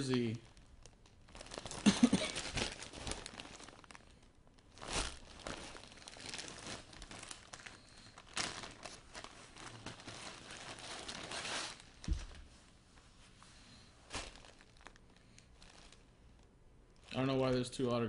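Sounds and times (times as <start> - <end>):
plastic packaging crinkling: 0.0 - 12.5, 14.1 - 17.5.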